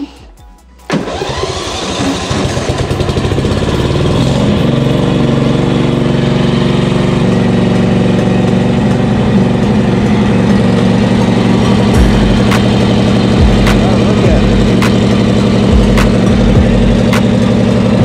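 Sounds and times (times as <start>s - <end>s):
lawn mower engine running: 0.9s - 18.0s.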